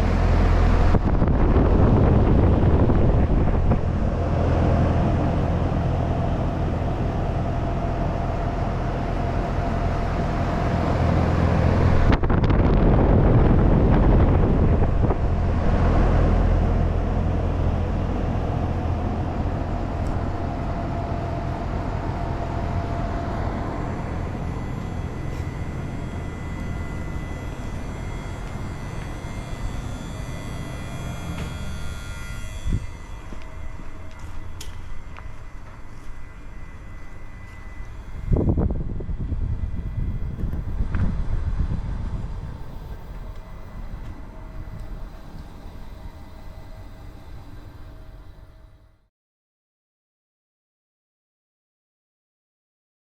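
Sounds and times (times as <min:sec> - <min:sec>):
heat pump humming: 0:00.0 - 0:49.0.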